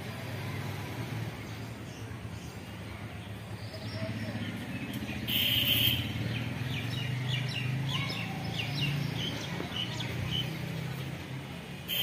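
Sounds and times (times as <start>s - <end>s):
birds chirping: 1.5s - 11.2s.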